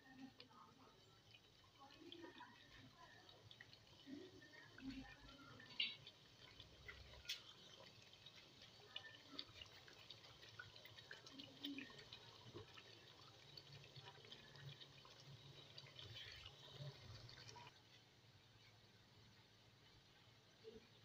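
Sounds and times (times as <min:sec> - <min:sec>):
gravy simmering with bubbles popping: 0:00.0 - 0:21.0.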